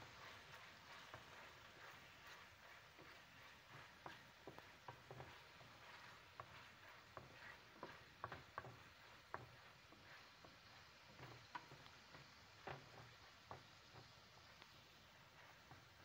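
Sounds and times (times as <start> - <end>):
food sizzling with small pops: 0.0 - 16.0
wooden spatula stirring in pan: 0.0 - 16.0.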